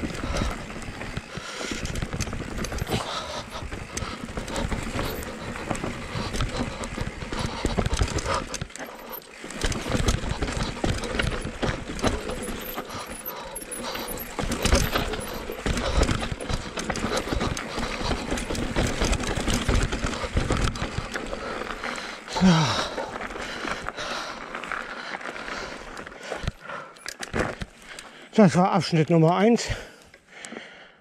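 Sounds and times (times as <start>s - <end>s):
tyres crunching over rocks: 0.0s - 28.2s
bike rattling and clattering: 0.0s - 29.9s.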